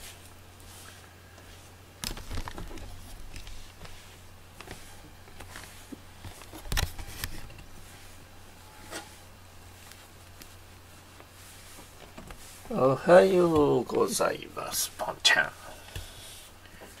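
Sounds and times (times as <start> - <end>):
cat grooming fur rustling: 0.0 - 17.0.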